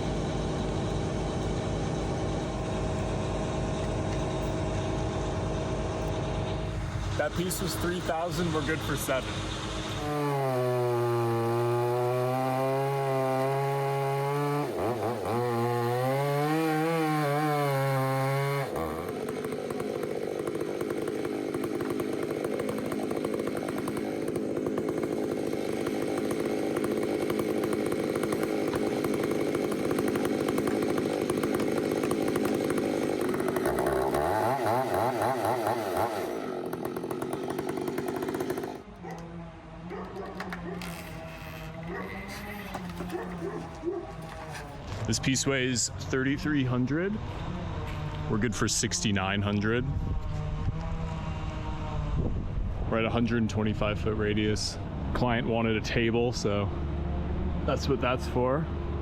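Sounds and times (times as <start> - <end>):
chainsaw cutting wood: 0.0 - 53.1.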